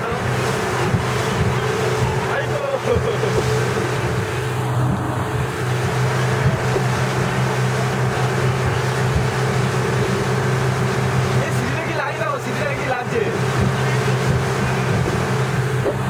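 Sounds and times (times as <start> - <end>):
speedboat engine droning: 0.0 - 16.0
water rushing past hull: 0.0 - 16.0.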